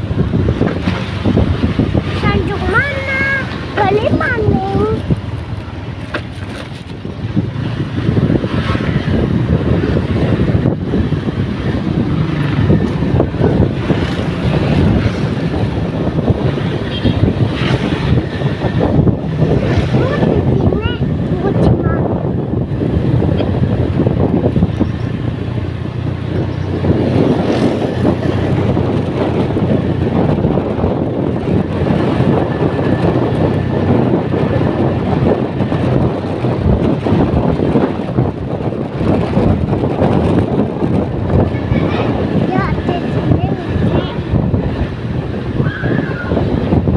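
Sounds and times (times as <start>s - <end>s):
motor vehicle running with low hum: 0.0s - 46.9s
wind buffeting microphone: 0.0s - 46.9s.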